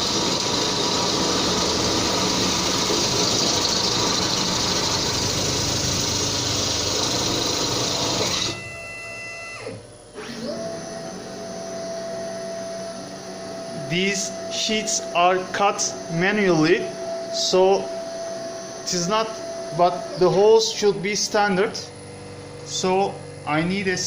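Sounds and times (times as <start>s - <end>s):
cnc spindle drilling sheet metal: 0.0s - 24.0s.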